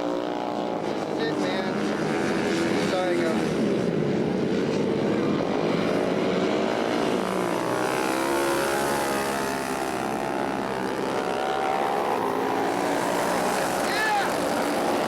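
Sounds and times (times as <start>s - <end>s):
racing motorcycles: 0.0s - 15.0s.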